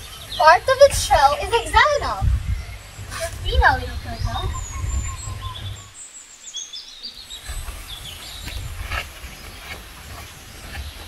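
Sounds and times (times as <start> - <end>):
wind rumble on microphone: 0.0 - 6.0, 7.2 - 11.0
birds chirping: 0.0 - 11.0.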